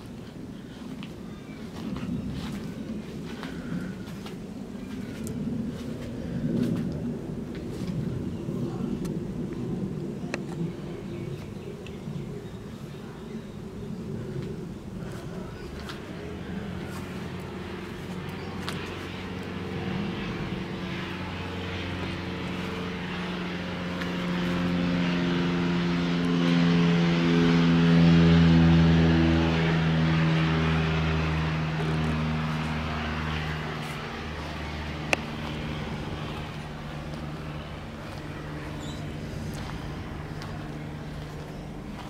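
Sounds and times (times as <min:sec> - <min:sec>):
aircraft engine drone overhead: 0:00.0 - 0:42.0.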